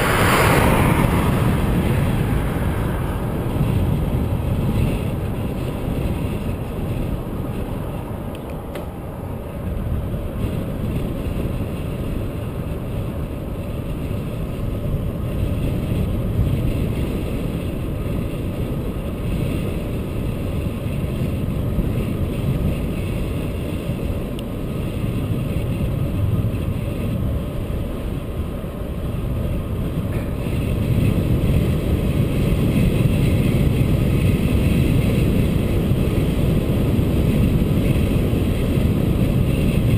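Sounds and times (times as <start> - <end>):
road and tyre noise: 0.0 - 39.9
wind rumbling on microphone: 0.0 - 39.9.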